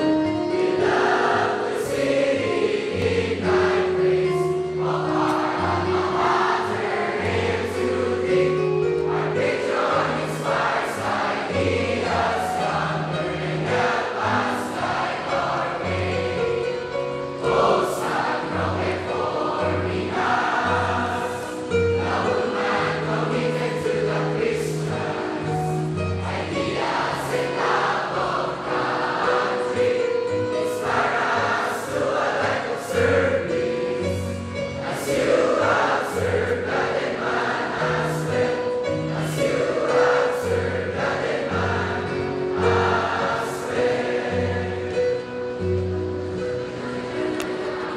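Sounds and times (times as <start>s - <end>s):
choir singing slow song: 0.0s - 47.9s
held accompaniment notes: 0.0s - 47.9s.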